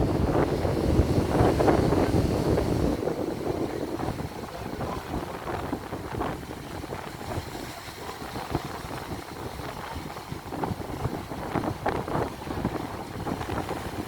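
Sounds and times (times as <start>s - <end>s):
waves washing: 0.0s - 14.0s
wind buffeting microphone: 0.0s - 14.0s.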